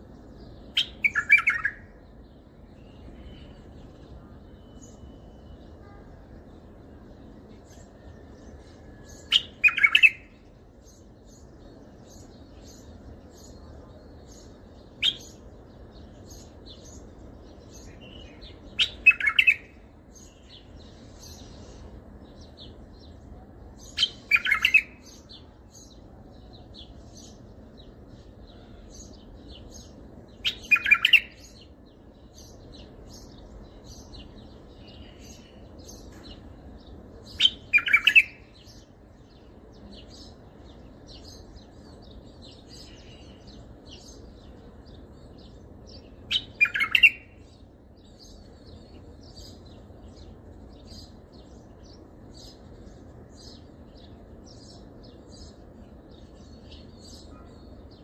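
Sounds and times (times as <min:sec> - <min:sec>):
bird singing song phrases: 0:00.0 - 0:58.0
faint bird chirps: 0:00.0 - 0:58.0.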